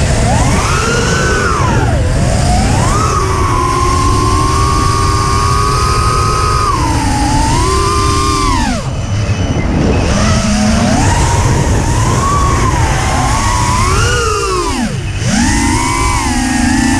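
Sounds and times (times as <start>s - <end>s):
quadcopter motors whining: 0.0s - 16.9s
wind on microphone: 0.0s - 16.9s.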